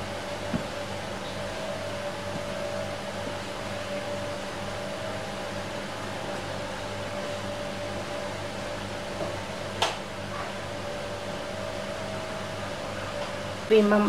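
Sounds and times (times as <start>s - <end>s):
electric hum and hiss: 0.0s - 14.0s.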